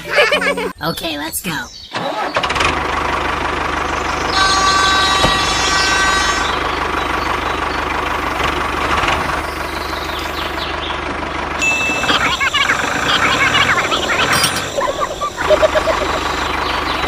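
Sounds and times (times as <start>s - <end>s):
tractor engine idling: 1.9s - 17.0s.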